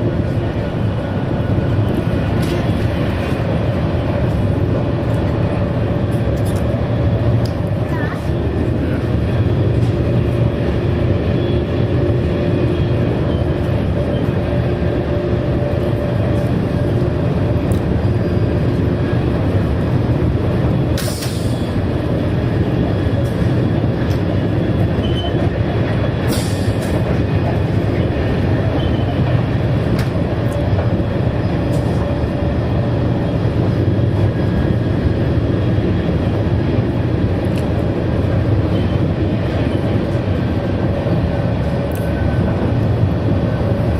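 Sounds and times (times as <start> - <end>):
train wheels and air rumble: 0.0 - 43.9.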